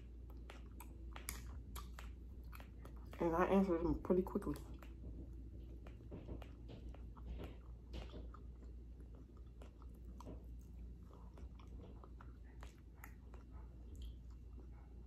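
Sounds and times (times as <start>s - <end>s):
person chewing food: 0.0s - 3.2s, 4.6s - 15.0s.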